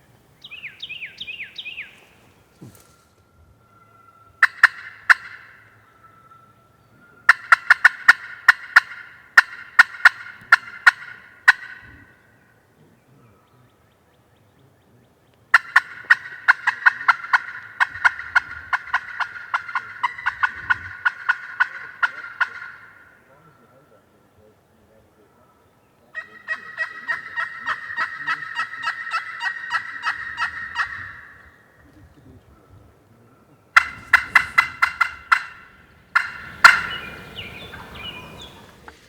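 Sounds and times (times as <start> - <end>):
turkey call cutts and yelps: 0.2 - 2.9, 3.6 - 12.5, 15.5 - 24.0, 25.3 - 39.0.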